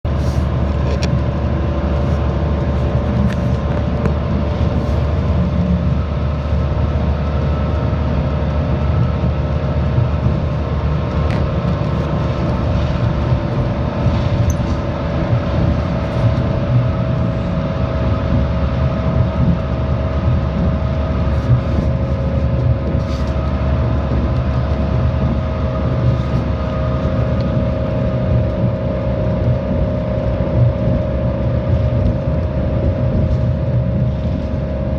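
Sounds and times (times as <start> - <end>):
bus engine rumble: 0.0 - 34.9
constant whine: 0.0 - 34.9.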